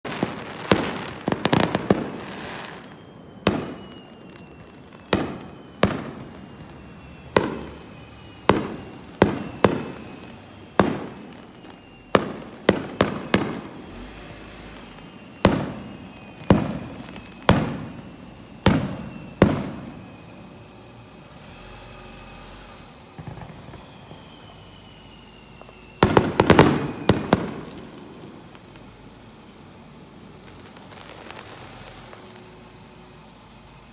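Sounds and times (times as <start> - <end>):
distant fireworks booming: 0.0 - 33.9.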